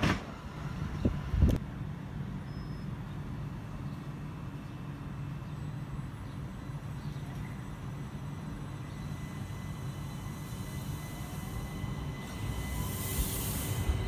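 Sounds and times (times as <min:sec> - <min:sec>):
electric train hum and rumble: 0:00.0 - 0:14.0.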